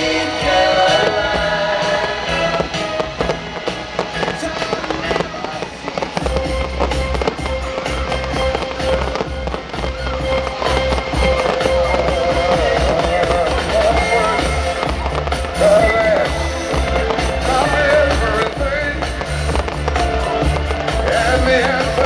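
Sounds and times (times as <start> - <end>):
fireworks bursting and crackling: 0.0 - 22.0
music with a low beat: 0.0 - 22.0.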